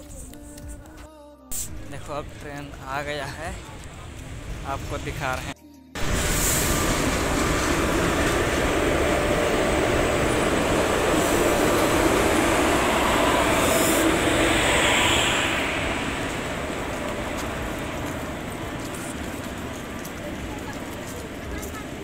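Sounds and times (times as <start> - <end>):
train rumbling on rails: 1.7 - 22.0.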